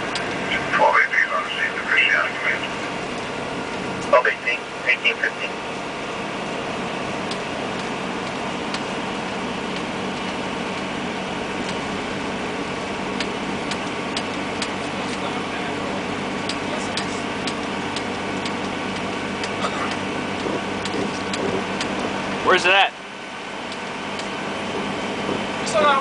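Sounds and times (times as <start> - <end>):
engine and road noise in cab: 0.0 - 26.0.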